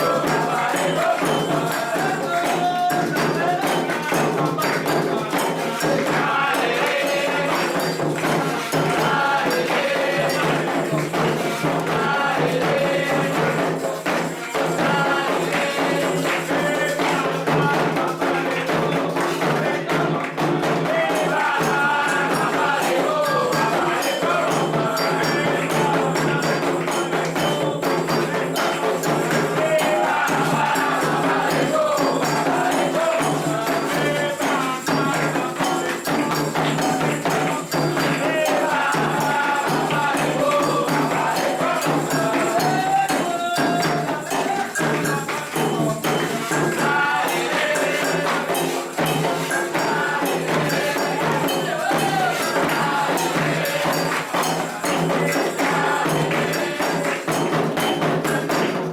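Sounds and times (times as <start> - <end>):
hand drums: 0.0 - 58.9
jingling rattling percussion: 0.0 - 58.9
voices singing a chant: 0.0 - 58.9.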